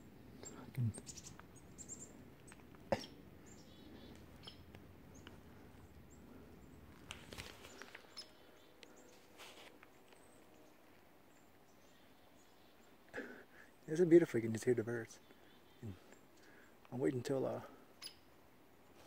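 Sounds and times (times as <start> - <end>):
songbirds chirping: 0.0 - 19.0
woodland ambience: 0.0 - 19.0.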